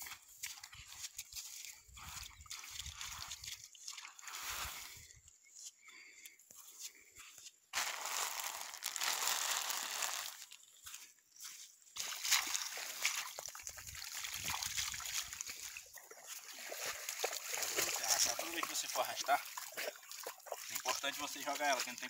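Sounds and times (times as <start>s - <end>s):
feet wading through water: 0.0s - 22.0s.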